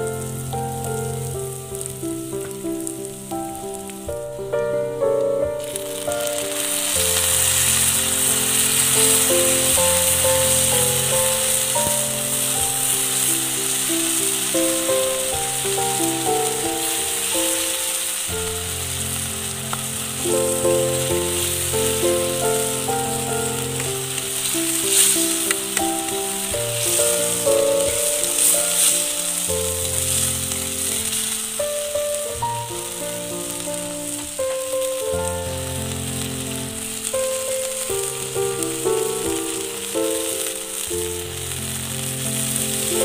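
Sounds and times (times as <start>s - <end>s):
food sizzling in a pan: 0.0s - 43.0s.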